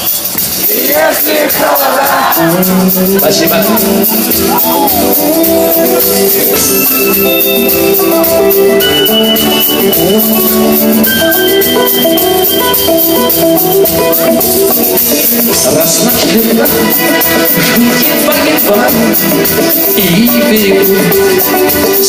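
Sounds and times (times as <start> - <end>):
drums and cymbals: 0.0 - 22.0
rock band playing: 0.0 - 22.0.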